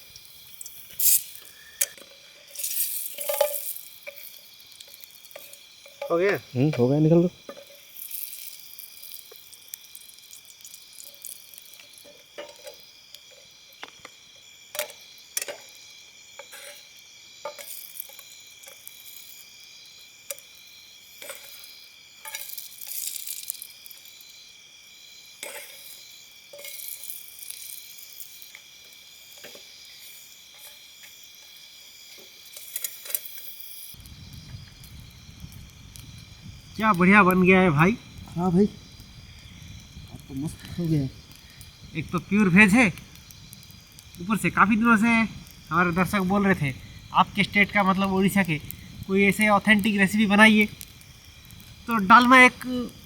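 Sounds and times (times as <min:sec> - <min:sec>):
food sizzling in hot oil: 0:00.0 - 0:53.0
insect chorus: 0:00.0 - 0:53.0.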